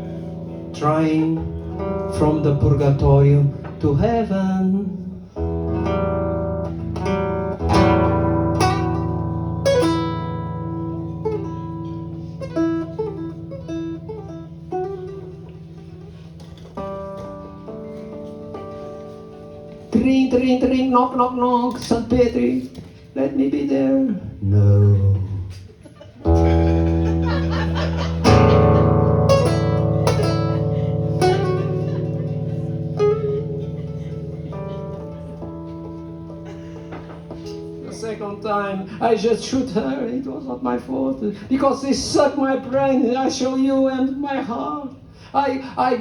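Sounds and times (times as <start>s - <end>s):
acoustic guitar: 0.0s - 46.0s.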